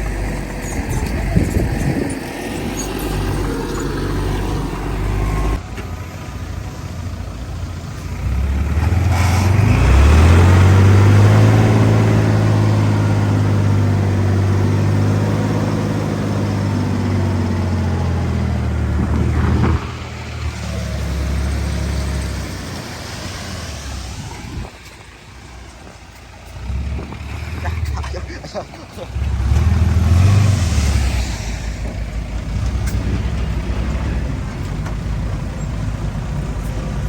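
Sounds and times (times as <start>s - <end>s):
heavy diesel engine under load: 0.0s - 37.0s.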